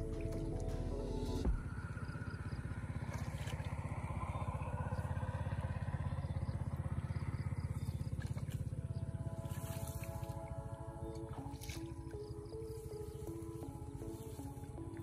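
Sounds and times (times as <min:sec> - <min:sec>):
small engine chugging: 0:01.3 - 0:15.0.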